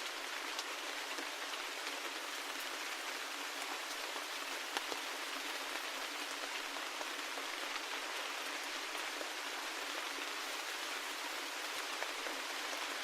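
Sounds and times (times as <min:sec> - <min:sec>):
raindrops ticking on a surface: 0:00.0 - 0:13.0
steady rain hiss: 0:00.0 - 0:13.0.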